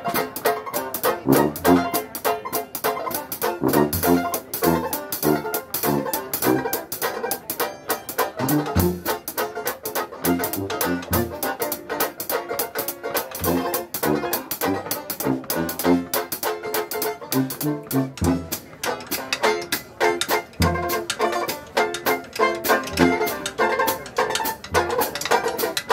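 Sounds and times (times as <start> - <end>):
dixieland jazz band playing: 0.0 - 25.9.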